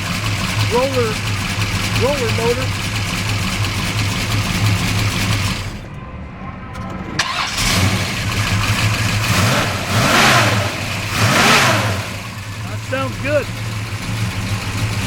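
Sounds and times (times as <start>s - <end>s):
v eight engine revving: 0.0s - 6.0s, 6.6s - 15.0s.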